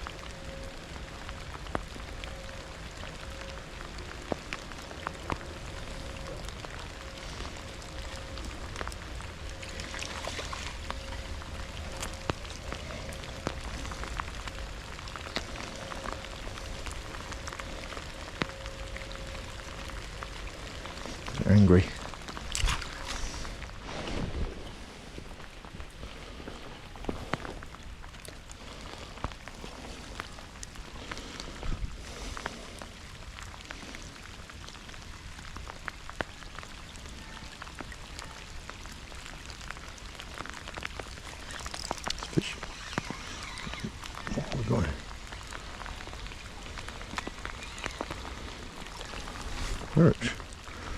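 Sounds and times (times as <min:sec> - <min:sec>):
raindrops ticking close by: 0:00.0 - 0:50.9
steady rain pattering: 0:00.0 - 0:50.9.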